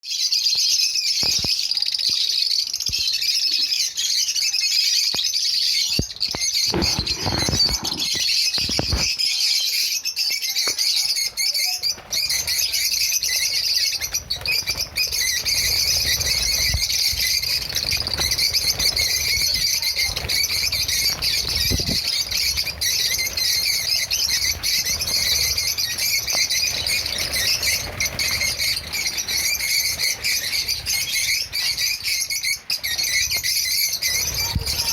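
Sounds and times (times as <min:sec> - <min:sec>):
small birds twittering: 0:00.0 - 0:34.9.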